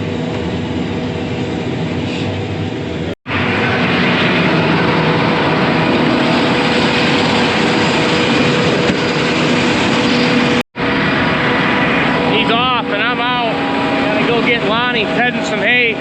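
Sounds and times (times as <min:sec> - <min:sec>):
farm machinery engine running: 0:00.0 - 0:16.0.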